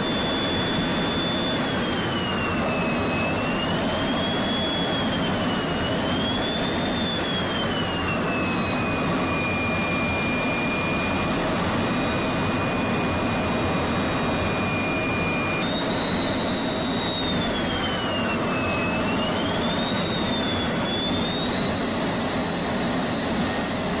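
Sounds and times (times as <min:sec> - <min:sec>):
jet engine turbine whine: 0:00.0 - 0:24.0.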